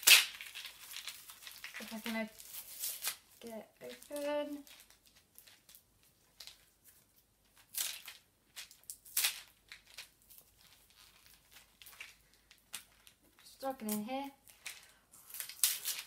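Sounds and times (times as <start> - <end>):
gift packaging crinkling and tearing: 0.0 - 16.0.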